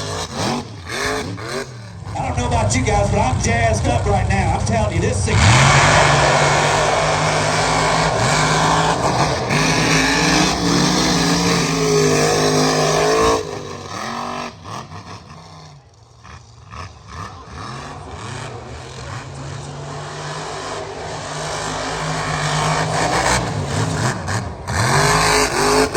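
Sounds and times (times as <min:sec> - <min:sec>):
truck engine at full throttle: 0:00.0 - 0:25.9.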